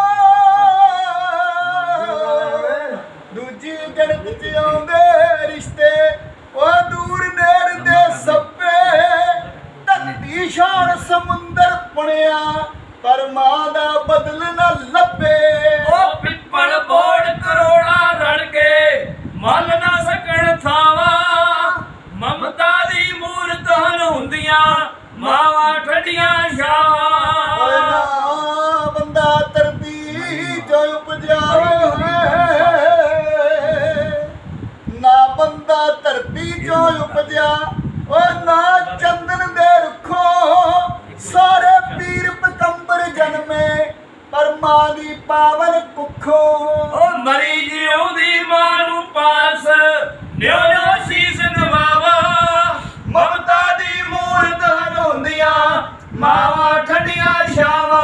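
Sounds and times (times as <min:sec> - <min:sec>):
man singing unaccompanied: 0:00.0 - 0:58.0.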